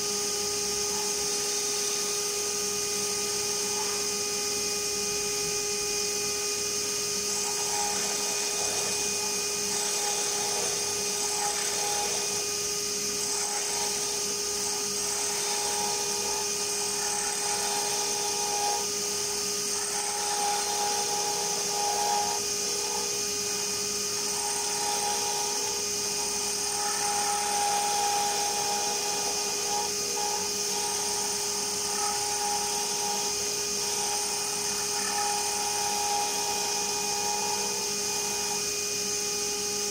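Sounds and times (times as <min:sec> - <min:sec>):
chisel cutting spinning wood: 0:00.0 - 0:39.9
wood lathe whining: 0:00.0 - 0:39.9.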